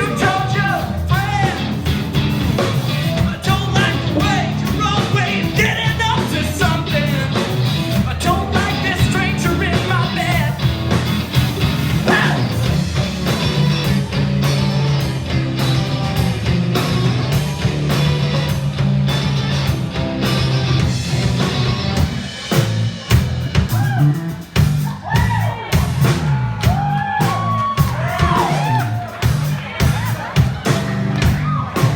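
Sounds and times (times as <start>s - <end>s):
bass line: 0.0s - 31.9s.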